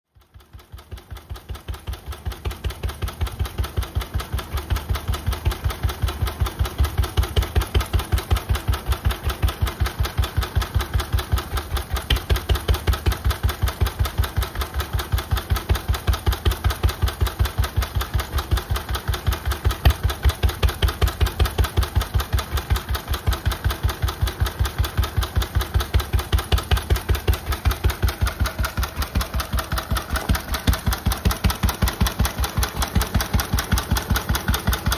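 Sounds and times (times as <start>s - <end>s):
stationary engine running: 0.1s - 34.9s.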